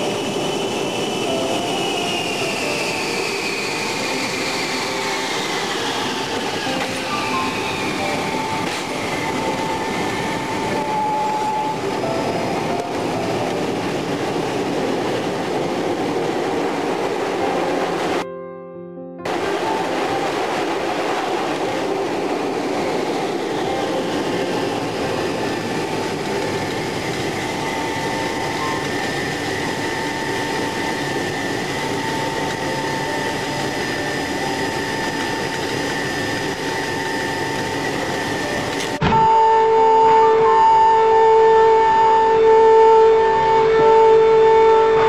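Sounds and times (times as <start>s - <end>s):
aircraft engine rumble: 0.0s - 18.2s, 19.3s - 39.0s
music with long held notes: 0.8s - 39.0s.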